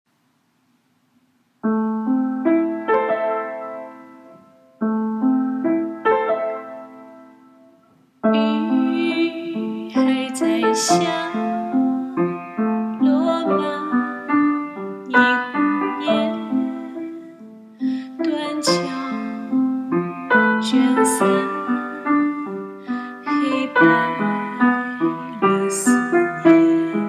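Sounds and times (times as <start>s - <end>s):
slow gentle piano: 1.4s - 27.0s.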